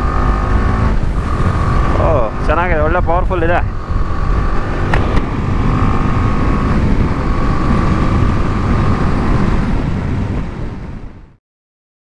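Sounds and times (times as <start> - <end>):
motorcycle engine cruising: 0.0 - 11.3
wind rush on microphone: 0.0 - 11.4.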